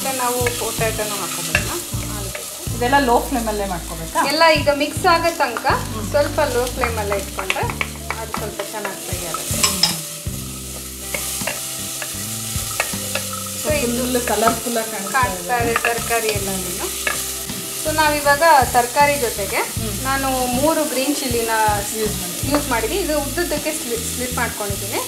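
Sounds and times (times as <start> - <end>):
spatula scraping pan: 0.0 - 22.8
vegetables frying: 0.0 - 25.0.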